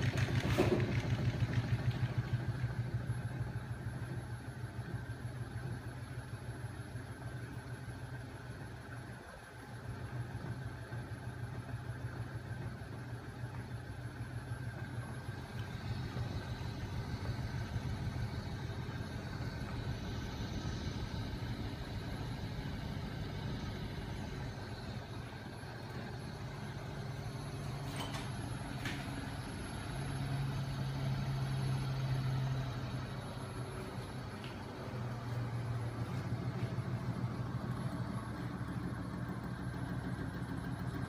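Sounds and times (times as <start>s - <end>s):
flywheel machine humming: 0.0s - 41.0s.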